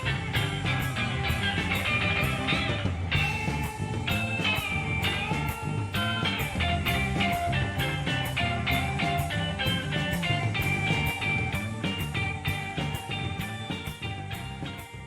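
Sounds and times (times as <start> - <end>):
instrumental rock music: 0.0 - 15.0.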